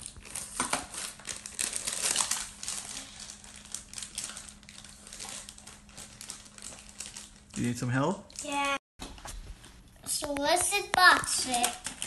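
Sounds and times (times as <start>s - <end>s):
plastic packaging crinkling: 0.0s - 8.7s, 10.7s - 12.0s.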